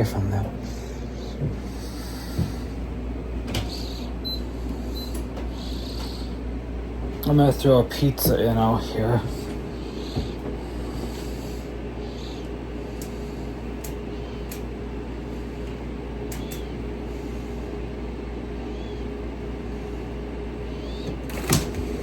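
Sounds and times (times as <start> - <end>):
appliance humming: 0.0 - 22.0.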